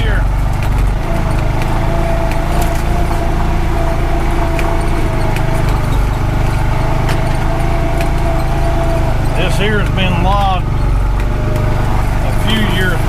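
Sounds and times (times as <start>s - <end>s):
steady whine: 0.0s - 13.0s
vehicle engine running: 0.0s - 13.0s.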